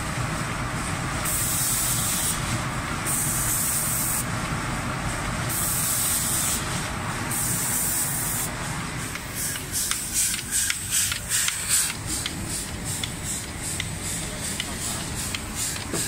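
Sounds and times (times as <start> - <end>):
spray guns hissing: 1.2 - 2.5, 3.1 - 4.3, 5.5 - 16.0.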